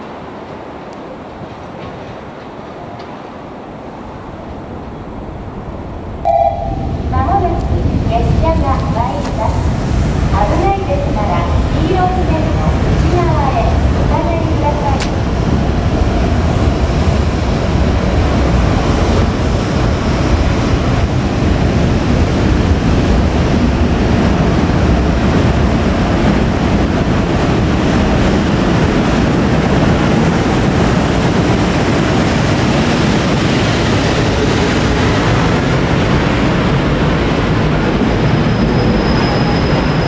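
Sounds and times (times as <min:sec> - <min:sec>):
freight train rumbling past: 0:00.0 - 0:40.0
wind noise on microphone: 0:04.0 - 0:40.0.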